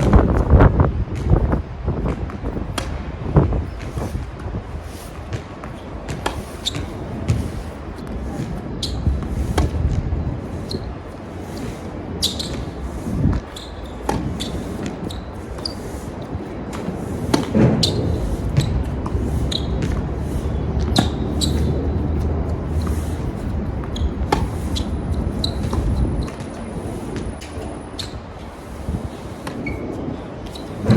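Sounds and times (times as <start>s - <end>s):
tennis balls struck and bouncing: 0.0s - 30.9s
wind buffeting microphone: 0.0s - 30.9s.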